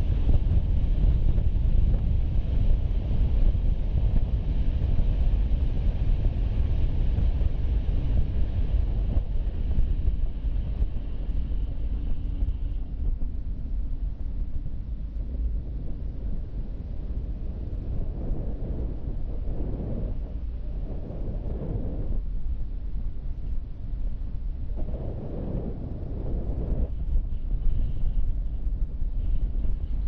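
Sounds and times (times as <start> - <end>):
road and engine rumble: 0.0 - 30.0
wind buffeting microphone: 0.0 - 30.0.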